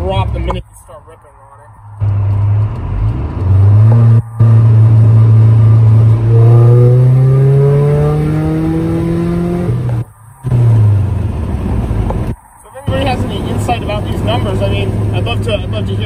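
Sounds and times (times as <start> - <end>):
pickup engine accelerating hard: 2.0 - 16.0.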